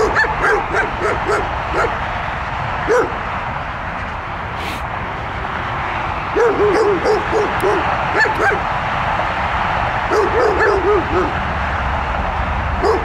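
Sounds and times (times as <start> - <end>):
steady background rush: 0.0 - 13.0.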